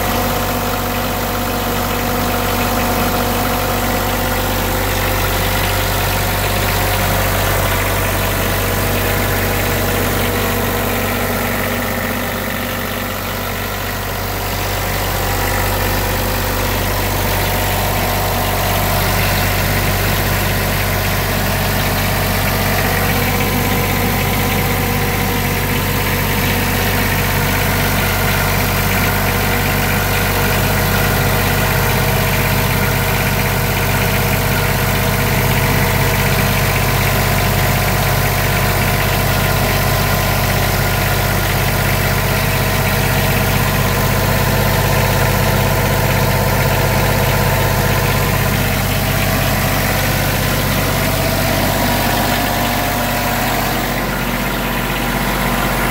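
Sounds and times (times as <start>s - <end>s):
generator running steadily: 0.0s - 55.9s.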